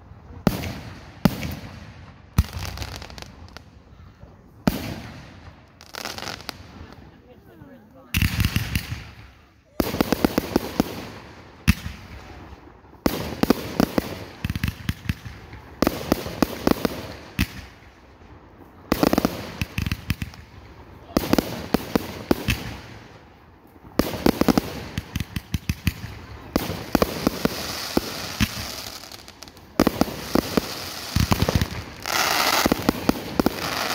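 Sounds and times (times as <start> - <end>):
fireworks bangs: 0.0 - 3.9, 4.6 - 7.2, 8.0 - 33.9
fireworks crackling pops: 0.0 - 3.9, 4.6 - 7.1, 8.1 - 33.9.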